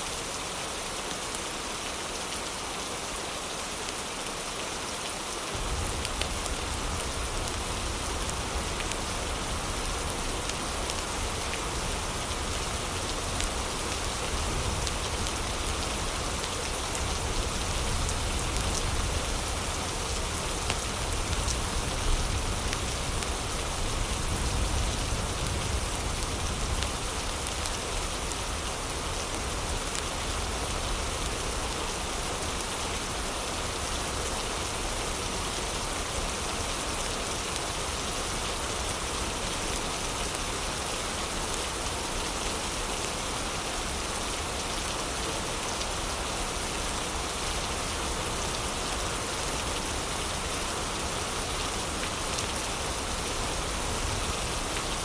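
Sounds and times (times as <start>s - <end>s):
heavy rainfall hissing: 0.0s - 55.0s.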